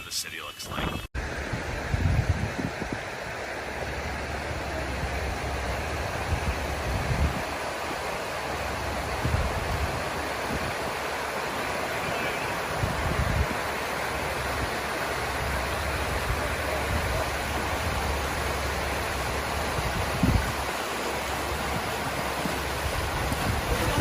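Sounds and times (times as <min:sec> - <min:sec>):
wind-driven rain: 0:00.3 - 0:24.0
gusts buffeting microphone: 0:00.6 - 0:24.0
strong storm wind: 0:00.6 - 0:24.0.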